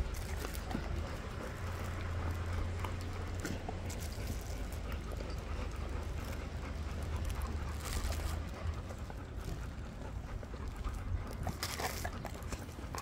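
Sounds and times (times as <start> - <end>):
dogs chewing: 0.0 - 13.0.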